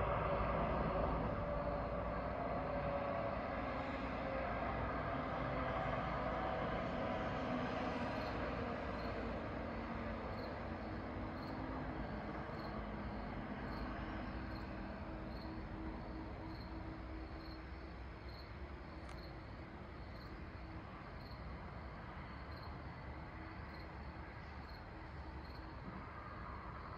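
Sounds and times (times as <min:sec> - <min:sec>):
crickets chirping: 0:00.1 - 0:06.1, 0:06.7 - 0:26.9.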